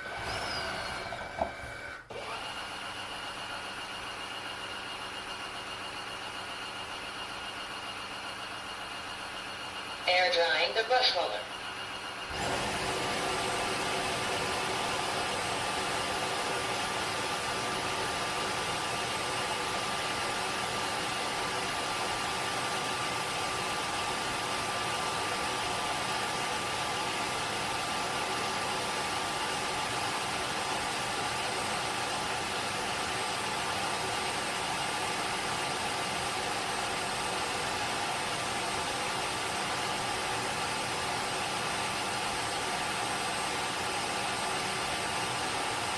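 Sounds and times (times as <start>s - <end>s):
floor cleaner blowing air with whine: 0.0s - 10.5s, 11.5s - 45.9s.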